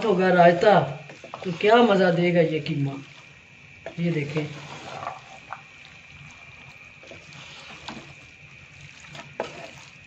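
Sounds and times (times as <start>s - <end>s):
wooden spatula scraping a pot: 0.6s - 10.0s.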